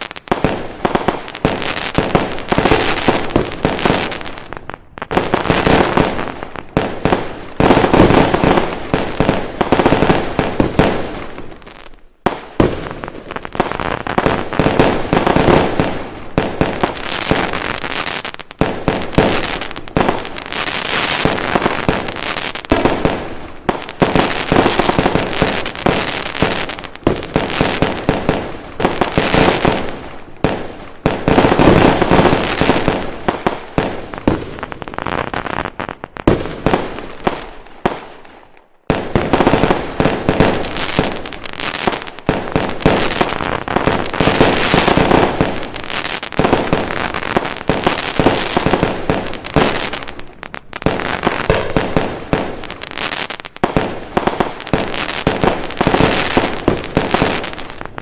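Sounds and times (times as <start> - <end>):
fireworks exploding: 0.0 - 58.0.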